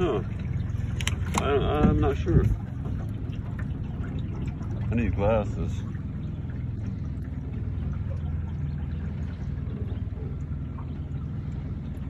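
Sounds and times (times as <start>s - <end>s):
boat motor rumbling: 0.0s - 12.0s
water against hull: 0.0s - 12.0s.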